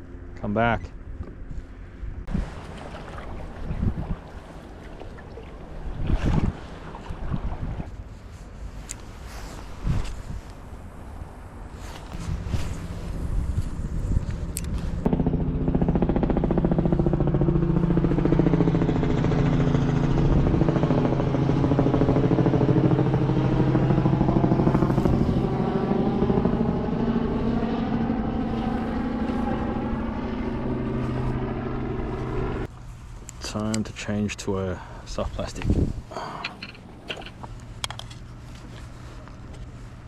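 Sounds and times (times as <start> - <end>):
boat engine running: 0.0 - 9.7, 10.7 - 33.2, 35.6 - 40.0.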